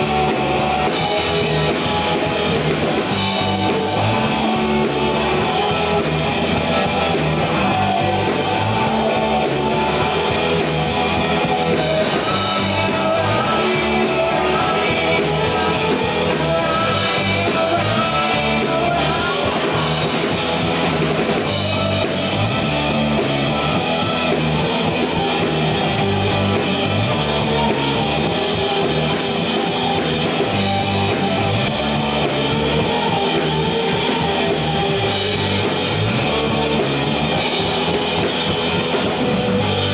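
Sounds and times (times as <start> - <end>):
drum kit: 0.0 - 39.9
electric bass: 0.0 - 39.9
electric guitars: 0.0 - 39.9
man singing: 0.2 - 38.1.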